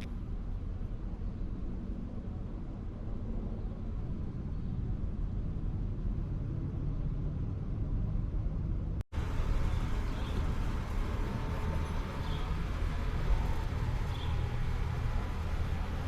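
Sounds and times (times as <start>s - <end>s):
low ambient rumble: 0.0s - 16.0s.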